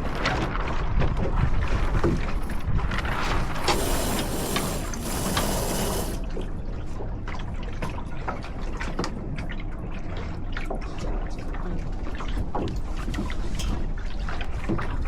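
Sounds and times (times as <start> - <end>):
water lapping against hull: 0.0 - 15.0
wind rumble on microphone: 0.0 - 15.0.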